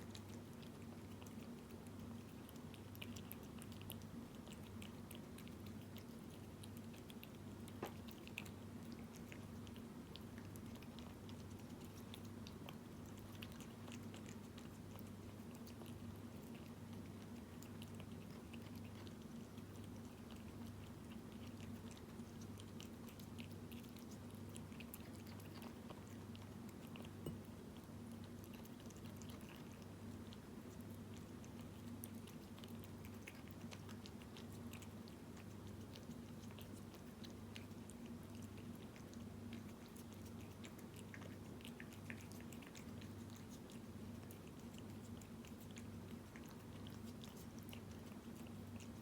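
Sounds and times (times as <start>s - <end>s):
cat chewing wet food: 0.0s - 49.0s.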